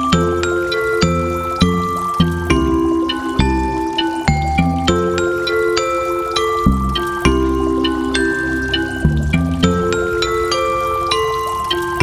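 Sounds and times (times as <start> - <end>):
bright melody over bass: 0.0 - 12.0.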